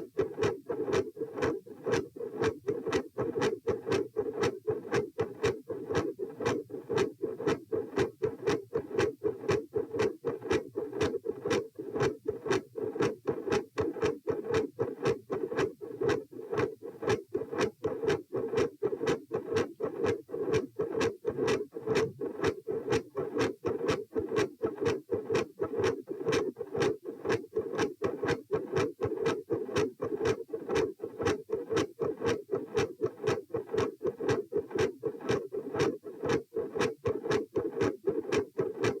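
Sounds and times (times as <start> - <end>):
heartbeat through stethoscope: 0.0 - 39.0.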